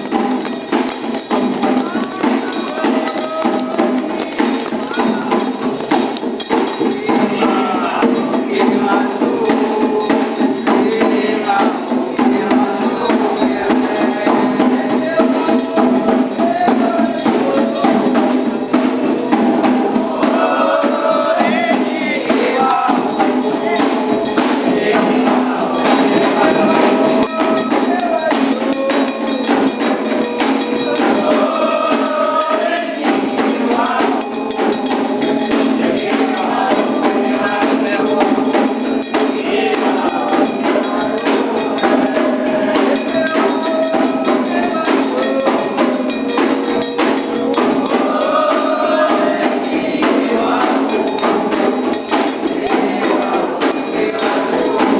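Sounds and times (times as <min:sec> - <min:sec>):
percussion drumming: 0:00.0 - 0:54.9
voices singing: 0:00.0 - 0:54.9.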